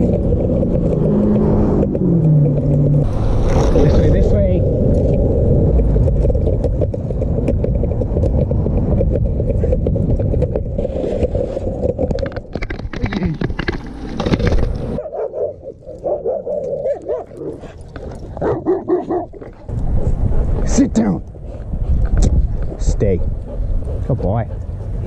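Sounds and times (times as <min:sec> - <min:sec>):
longboard wheels rolling on pavement: 0:00.0 - 0:25.0.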